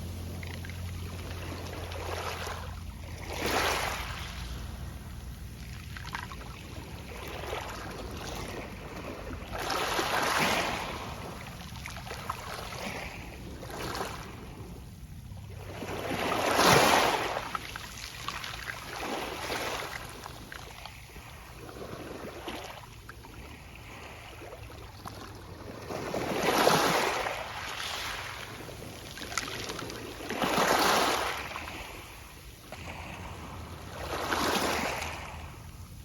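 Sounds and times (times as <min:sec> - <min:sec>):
waves washing onto beach: 0:00.0 - 0:36.0.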